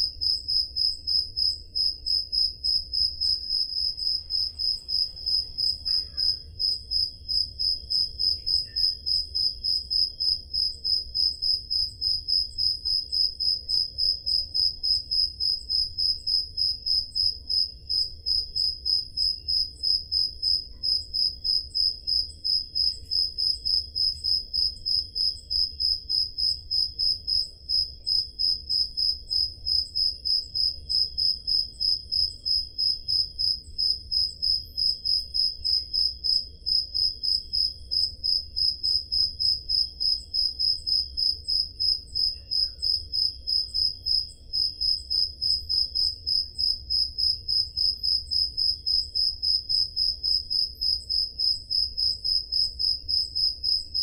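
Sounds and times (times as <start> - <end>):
faint crickets chirping: 0.0 - 54.0
loud cricket chirping: 0.0 - 54.0.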